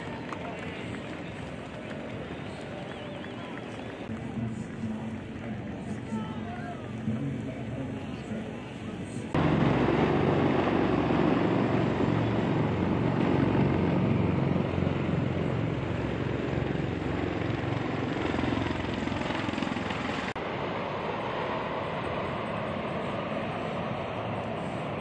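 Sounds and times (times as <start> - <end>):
helicopter rotor rumble: 0.0 - 25.0.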